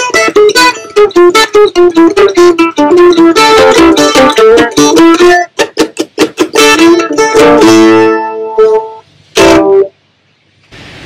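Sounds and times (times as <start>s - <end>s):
mandolin played with a pick: 0.0s - 9.9s.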